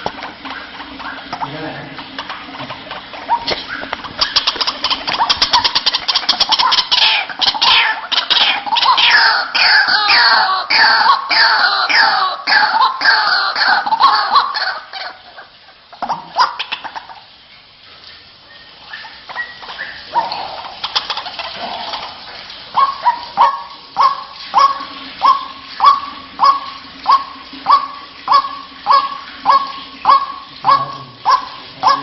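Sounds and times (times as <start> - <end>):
waterhen calling: 0.0 - 32.0.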